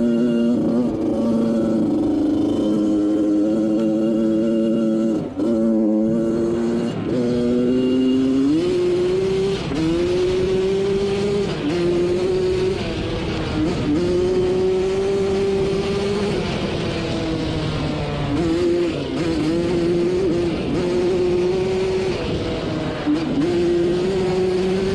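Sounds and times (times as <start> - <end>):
two-stroke engine running hard: 0.0 - 24.9.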